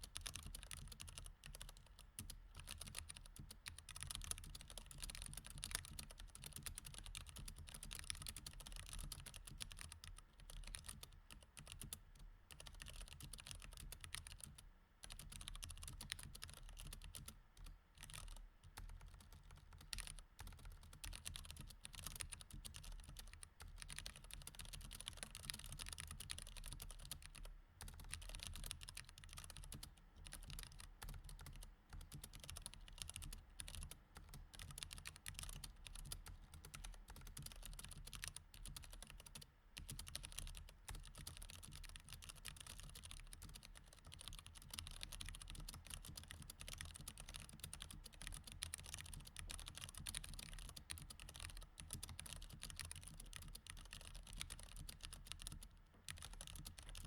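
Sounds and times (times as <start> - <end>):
typing on mechanical keyboard: 0.0 - 57.0.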